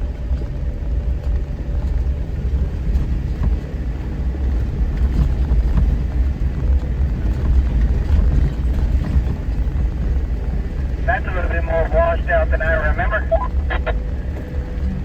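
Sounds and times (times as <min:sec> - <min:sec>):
vehicle engine and tyres rumbling: 0:00.0 - 0:15.0.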